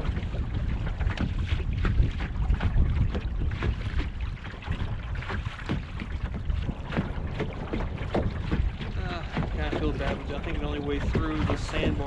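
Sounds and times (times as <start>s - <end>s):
small waves slapping hull: 0.0s - 12.0s
wind buffeting microphone: 0.0s - 12.0s.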